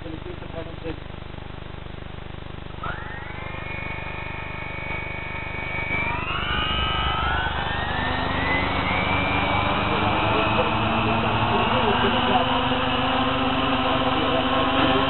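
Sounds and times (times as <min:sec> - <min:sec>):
electric motor whine: 0:02.8 - 0:15.0.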